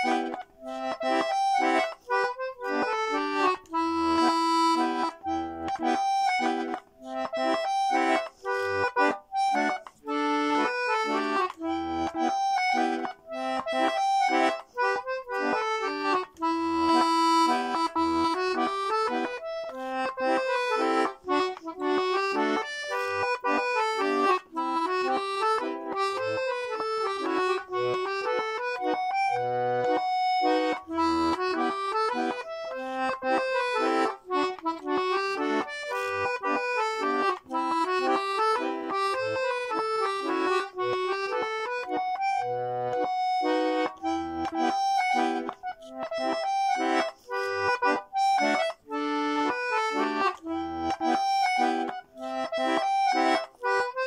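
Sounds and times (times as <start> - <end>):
button accordion playing a tune: 0.0 - 54.0.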